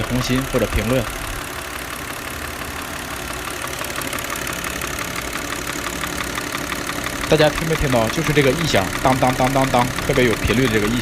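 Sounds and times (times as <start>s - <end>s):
car engine idling: 0.0s - 11.0s
rhythmic knocking from engine: 0.0s - 11.0s.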